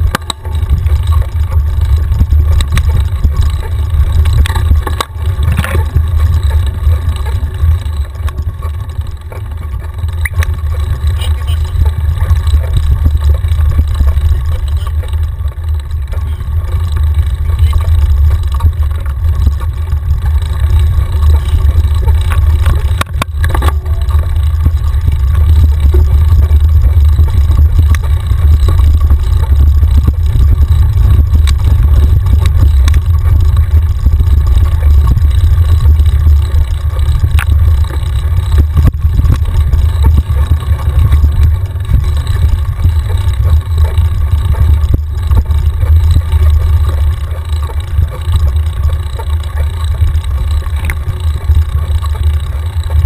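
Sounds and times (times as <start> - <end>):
bike knocks and rattles: 0.0 - 53.0
wind buffeting microphone: 10.1 - 53.0.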